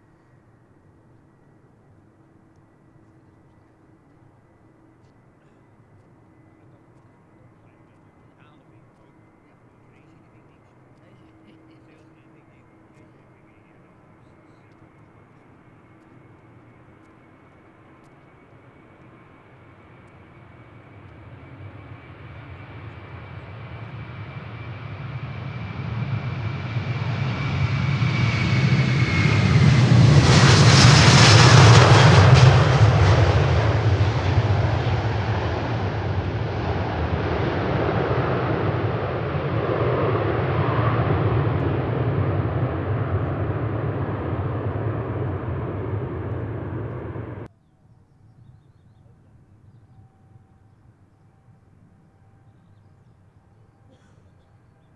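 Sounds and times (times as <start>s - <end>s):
jet airliner taking off: 0.1s - 47.5s.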